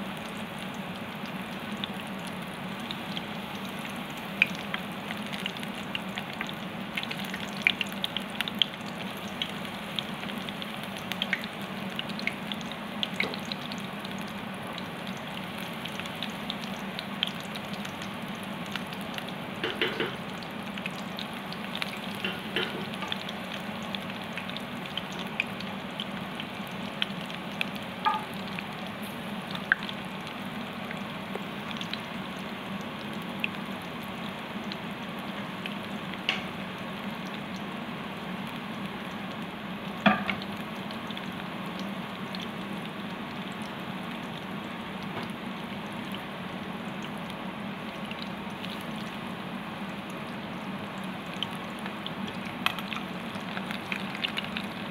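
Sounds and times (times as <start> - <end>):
food deep-frying in oil: 0.0 - 54.9.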